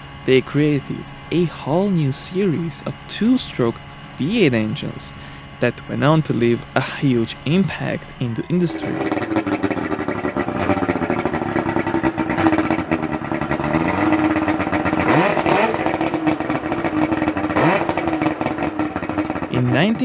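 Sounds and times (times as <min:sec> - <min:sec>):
outboard engine revving: 0:00.0 - 0:20.0.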